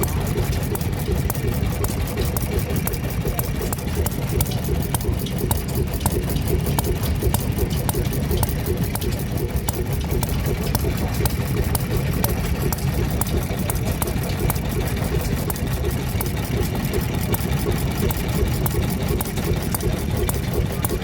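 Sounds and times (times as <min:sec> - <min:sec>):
low engine rumble: 0:00.0 - 0:21.0
sharp engine ticks and clicks: 0:00.0 - 0:21.0.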